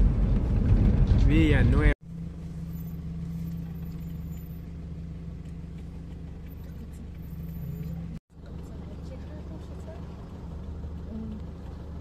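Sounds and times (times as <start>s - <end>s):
engine drone inside vehicle: 0.0s - 12.0s
road noise: 0.0s - 12.0s.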